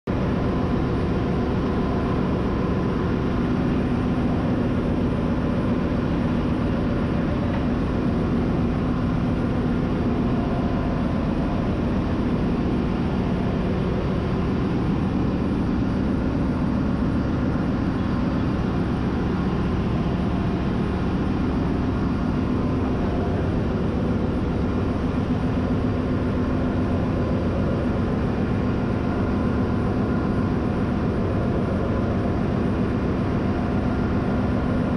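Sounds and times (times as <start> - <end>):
diesel engine mechanical hum: 0.1 - 34.9.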